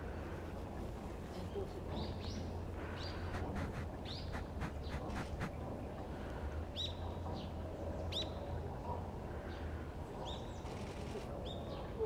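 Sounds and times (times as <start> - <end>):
low outdoor hum: 0.0 - 12.0.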